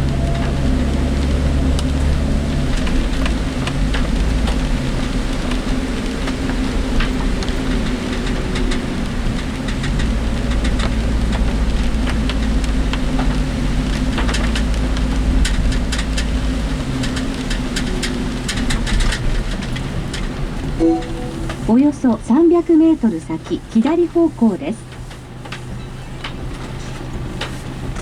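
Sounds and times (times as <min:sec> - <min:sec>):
engine and road hum: 0:00.0 - 0:28.0
heavy rain on vehicle: 0:00.0 - 0:28.0.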